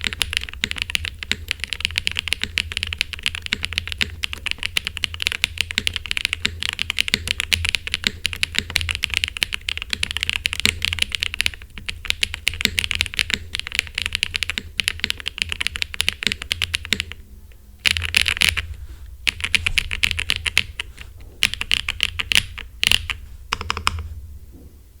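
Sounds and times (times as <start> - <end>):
mechanical keyboard typing: 0.0 - 17.2, 17.8 - 24.1.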